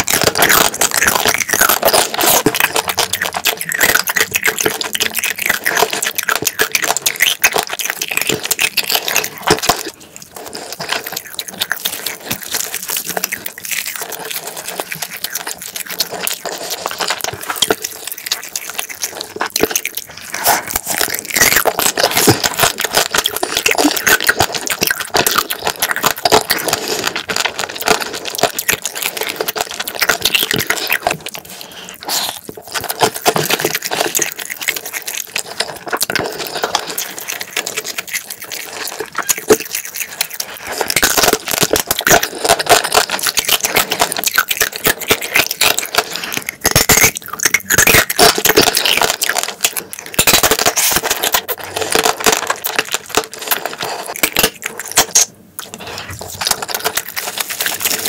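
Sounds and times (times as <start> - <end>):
chewing and wet sucking: 0.0 - 58.0
sticky mouth clicks and smacks: 0.0 - 58.0.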